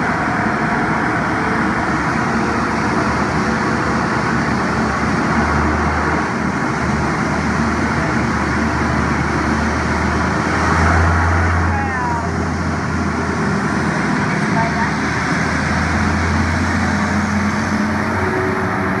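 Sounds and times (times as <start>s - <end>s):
turboprop engines running: 0.0s - 19.0s.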